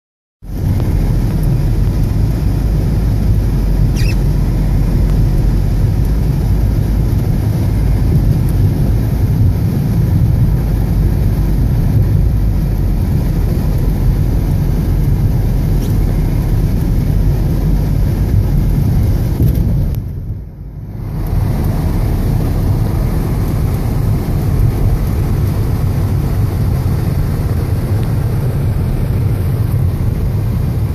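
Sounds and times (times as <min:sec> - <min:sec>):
car interior road and engine noise: 0:00.4 - 0:30.9.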